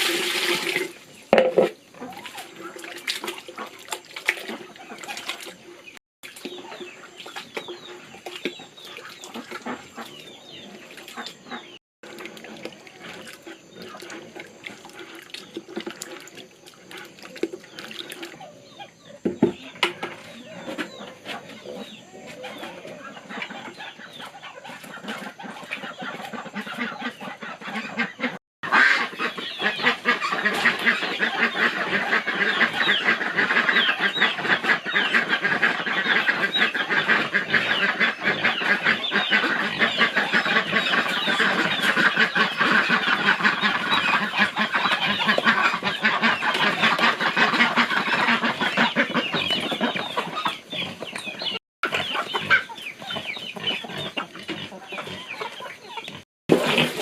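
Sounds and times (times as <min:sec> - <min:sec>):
chickens clucking and calling: 0:00.0 - 0:57.0.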